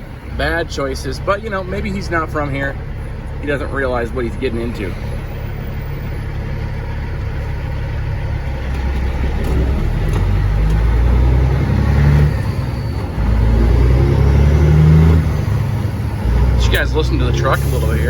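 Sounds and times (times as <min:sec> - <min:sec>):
diesel truck engine pulling: 0:00.0 - 0:18.0.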